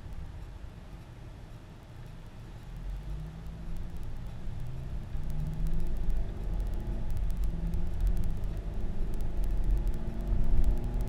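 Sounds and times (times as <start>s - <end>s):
car tyre and engine rumble: 0.0s - 11.0s.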